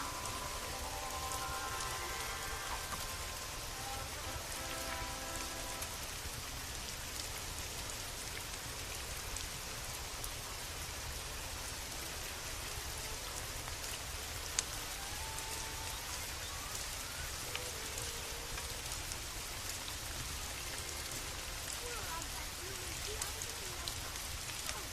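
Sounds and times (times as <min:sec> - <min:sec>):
rain falling: 0:00.0 - 0:24.9
wood fire crackling: 0:00.0 - 0:24.9.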